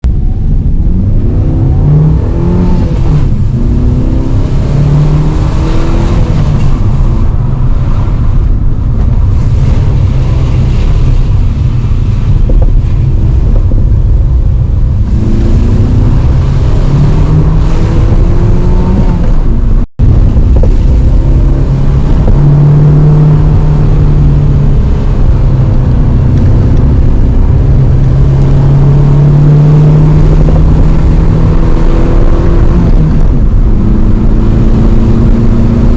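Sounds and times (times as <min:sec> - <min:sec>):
car engine accelerating: 0:00.0 - 0:35.9.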